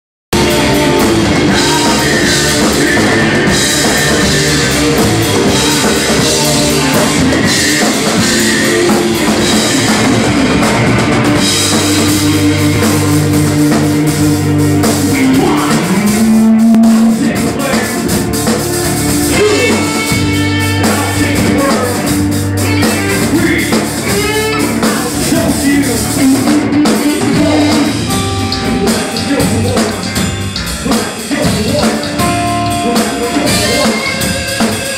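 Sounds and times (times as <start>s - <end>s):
drum kit with cymbals: 0.3s - 34.9s
electric guitar: 0.3s - 34.9s
rock band playing loudly: 0.3s - 34.9s.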